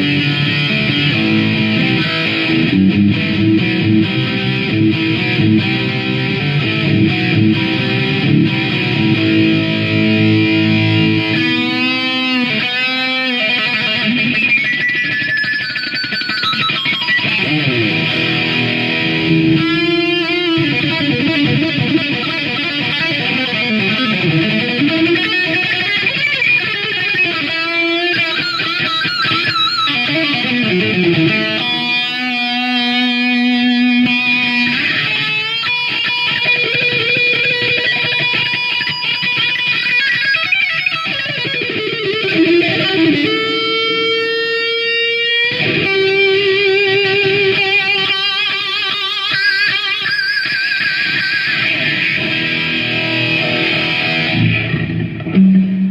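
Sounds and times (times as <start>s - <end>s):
electric guitar playing: 0.0s - 55.9s.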